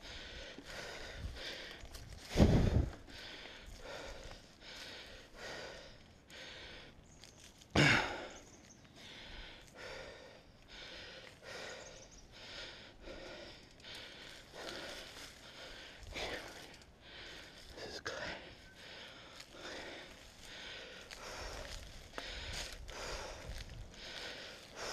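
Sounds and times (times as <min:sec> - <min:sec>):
heavy rhythmic breathing: 0:00.0 - 0:07.0, 0:07.8 - 0:24.9.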